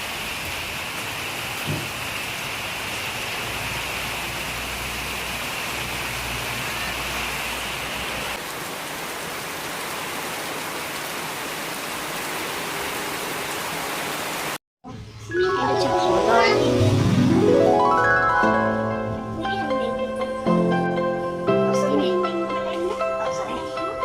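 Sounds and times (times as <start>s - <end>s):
steady rain falling: 0.0s - 14.6s, 16.1s - 24.0s.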